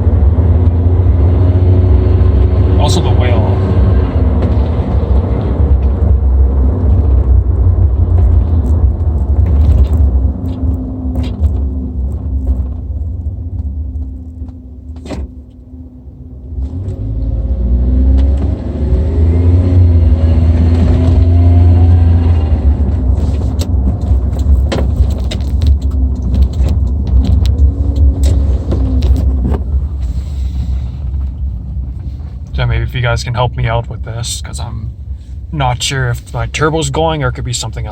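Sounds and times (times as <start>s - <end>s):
car engine revving: 0.0s - 12.8s, 16.0s - 37.9s.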